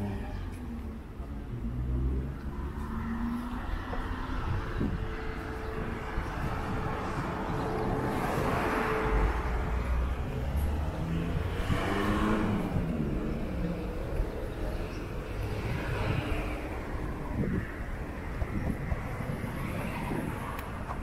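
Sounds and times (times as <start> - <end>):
cars passing: 0.0 - 21.0
low traffic rumble: 0.0 - 21.0.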